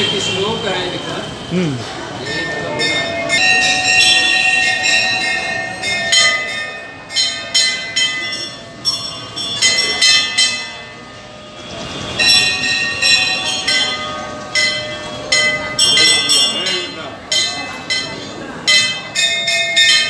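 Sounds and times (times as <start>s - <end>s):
brass bell ringing: 0.0s - 20.0s.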